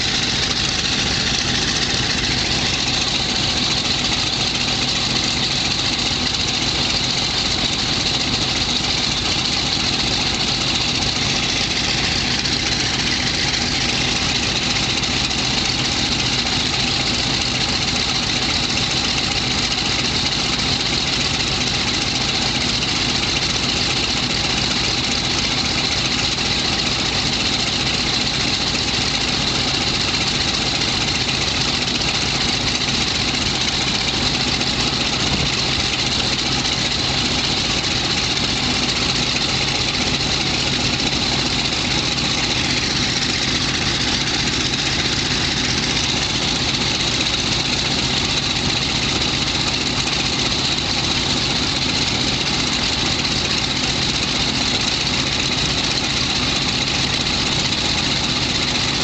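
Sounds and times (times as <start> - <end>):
radial aircraft engine idling: 0.0 - 59.0.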